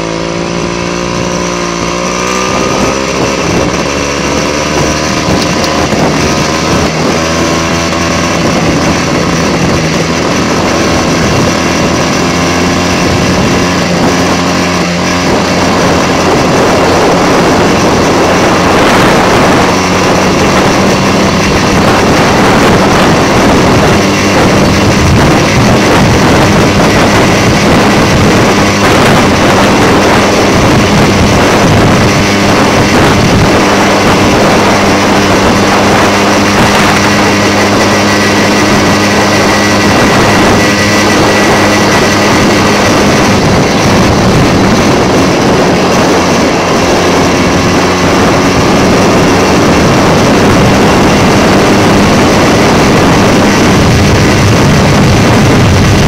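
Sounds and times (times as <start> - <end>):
moped engine at high revs: 0.0 - 56.0
wind rushing over microphone: 0.0 - 56.0.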